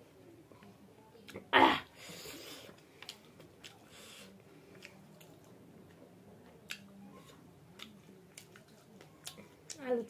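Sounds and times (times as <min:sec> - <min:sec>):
faint chewing of food: 0:00.5 - 0:10.0.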